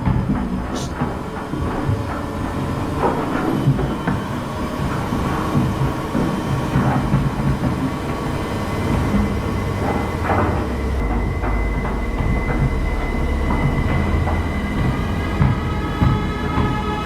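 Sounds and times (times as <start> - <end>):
rattles and knocks: 0.0 - 17.0
washing machine rumbling: 0.0 - 17.0.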